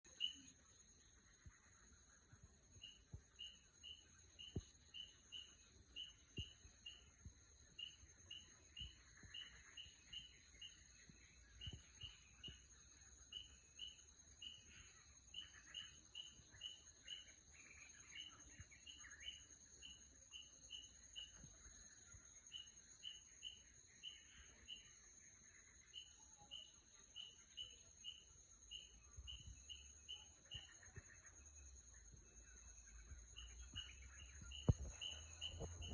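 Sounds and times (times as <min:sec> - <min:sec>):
bird chirping: 0:00.0 - 0:35.9.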